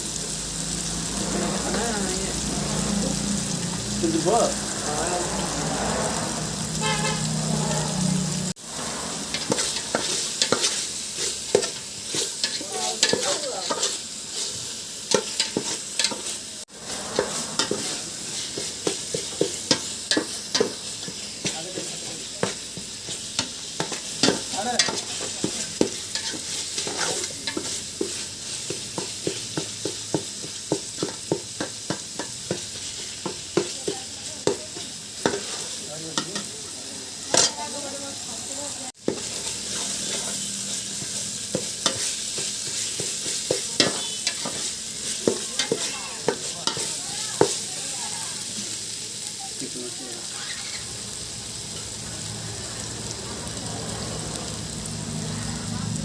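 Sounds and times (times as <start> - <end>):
chicken sizzling in a pan: 0.0 - 56.0
spatula scraping pan: 0.2 - 38.2, 39.0 - 48.2.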